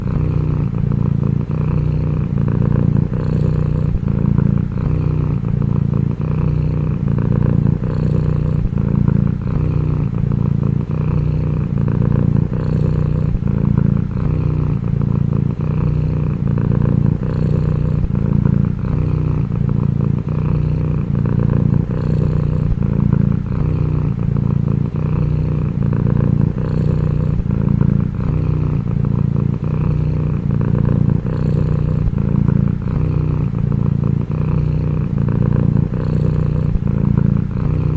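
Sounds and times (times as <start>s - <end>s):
cat purring: 0.0s - 37.9s.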